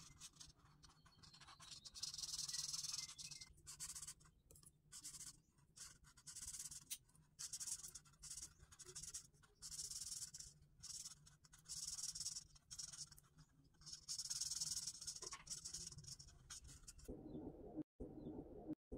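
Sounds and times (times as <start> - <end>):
marker scratching on paper: 0.0 - 17.1.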